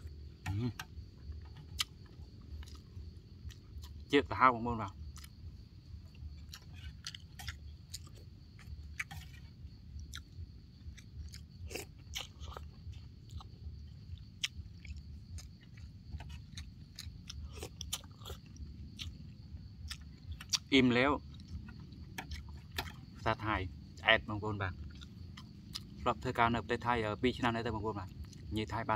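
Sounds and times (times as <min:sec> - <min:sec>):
person chewing noodle soup: 0:00.0 - 0:04.1, 0:04.9 - 0:23.1, 0:24.8 - 0:26.0, 0:28.1 - 0:28.5.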